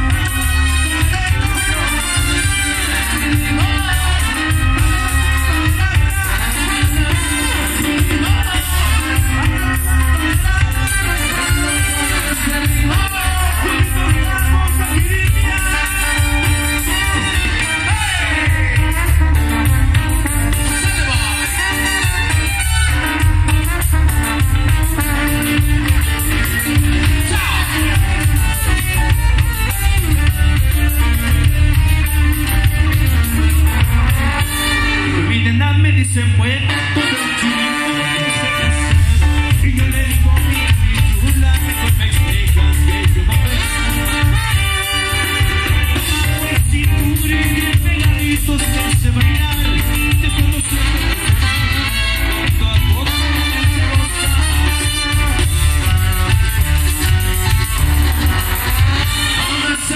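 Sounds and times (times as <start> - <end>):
drum kit beat: 0.0 - 35.2, 36.8 - 59.9
band playing live through pa: 0.0 - 59.9
heavy bass line: 0.0 - 59.9.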